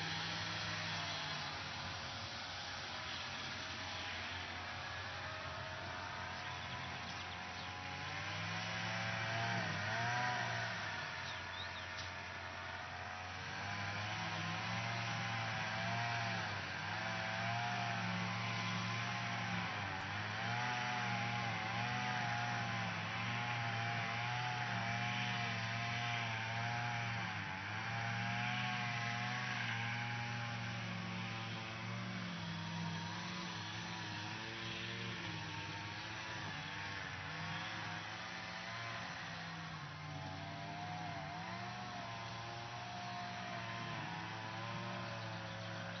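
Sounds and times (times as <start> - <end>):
lawn mower running: 0.0 - 46.0.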